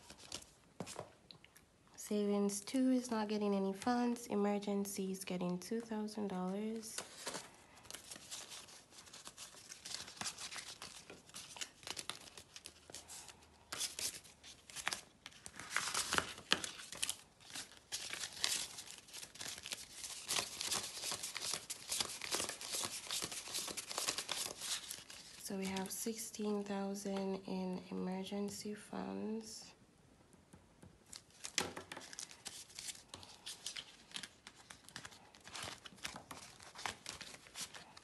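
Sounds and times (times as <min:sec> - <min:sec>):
banknotes rustling and crinkling: 0:00.0 - 0:01.2, 0:05.1 - 0:27.4, 0:30.8 - 0:38.0.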